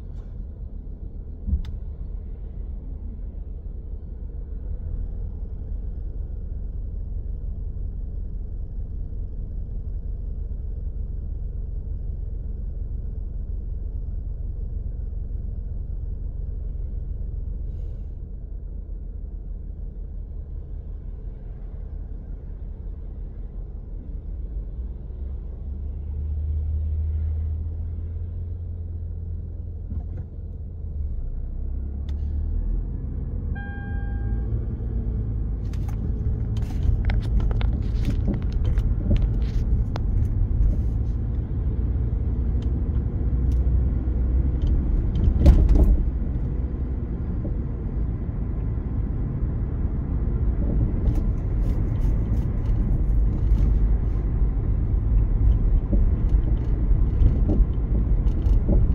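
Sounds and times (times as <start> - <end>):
car engine rumble: 0.0 - 58.9
road noise: 0.0 - 58.9.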